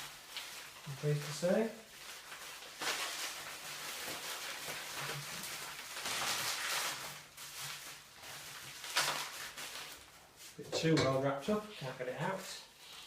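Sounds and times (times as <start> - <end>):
bubble wrap rustling and crinkling: 0.0 - 13.0.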